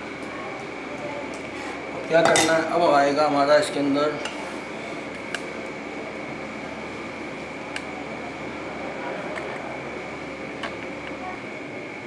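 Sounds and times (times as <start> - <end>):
high steady whine: 0.0 - 12.0
kitchen machinery whirring hum: 0.0 - 12.0.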